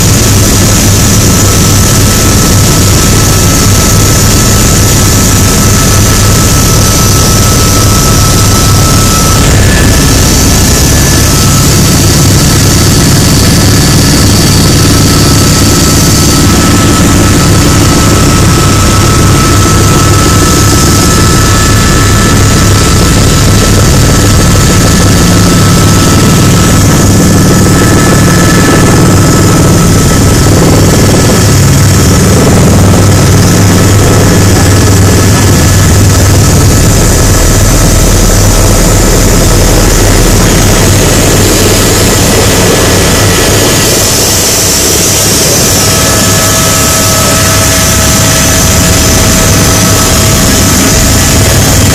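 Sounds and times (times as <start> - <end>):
helicopter turbine whine: 0.0 - 51.9.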